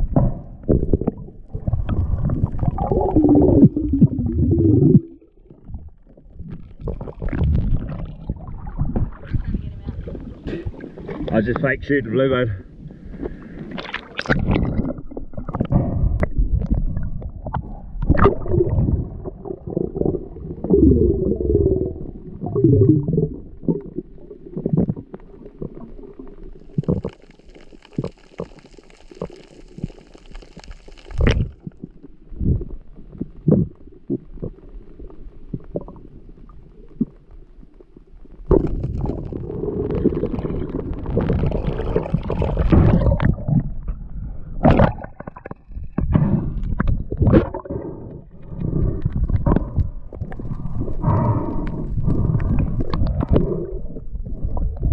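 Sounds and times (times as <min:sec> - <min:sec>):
muffled underwater rumbling: 0:00.0 - 0:54.9.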